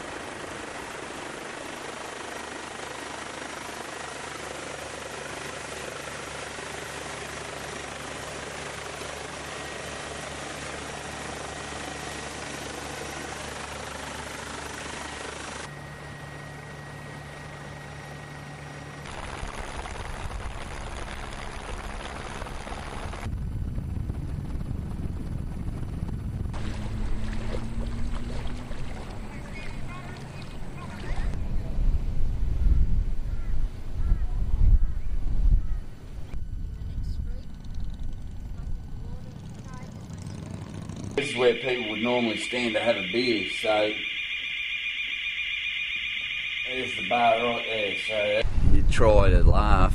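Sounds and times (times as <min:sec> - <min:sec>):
helicopter drone: 0:00.0 - 0:34.0, 0:35.8 - 0:49.9.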